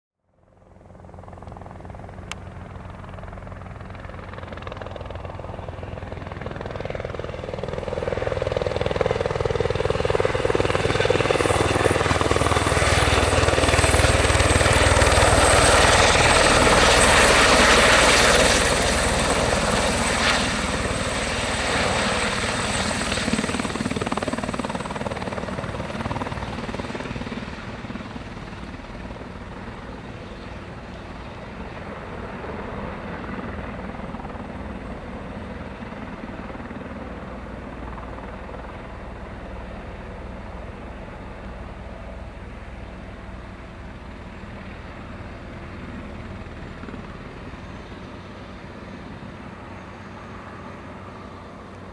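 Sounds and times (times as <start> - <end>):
helicopter turbine and rotors: 0.3 - 51.9.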